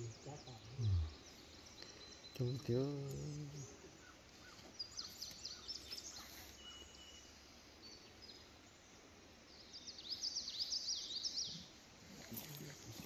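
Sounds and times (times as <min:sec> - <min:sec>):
faint birdsong chirps and whistles: 0:00.0 - 0:13.0
steady outdoor hiss: 0:00.0 - 0:13.0.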